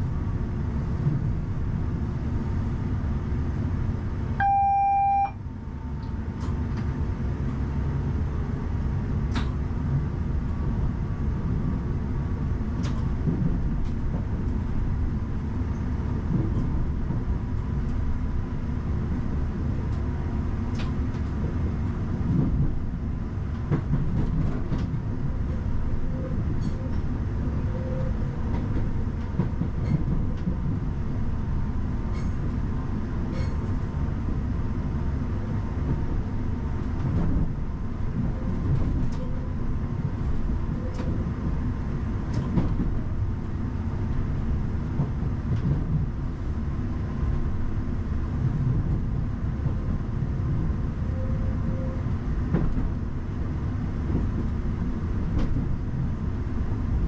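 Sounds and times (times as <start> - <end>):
train wheels rumbling on rail: 0.0 - 4.4, 5.4 - 57.0.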